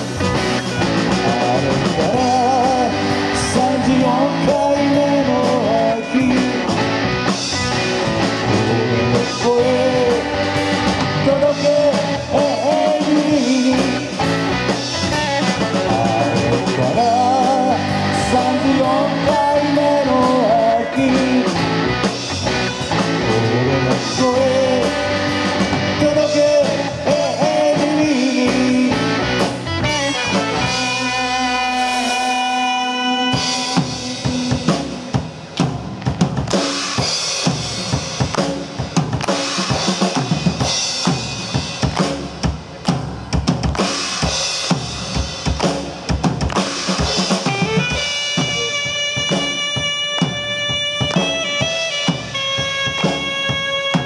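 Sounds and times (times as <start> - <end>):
live rock band with saxophone: 0.0 - 54.0.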